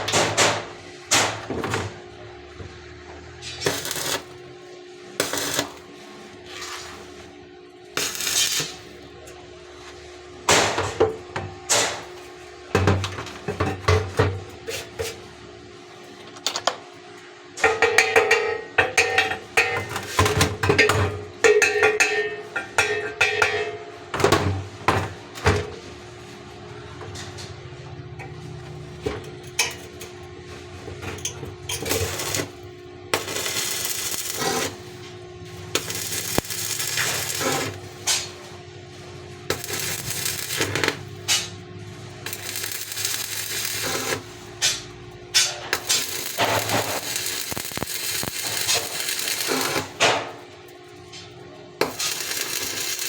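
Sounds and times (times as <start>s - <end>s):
steady hum: 0.0s - 53.0s.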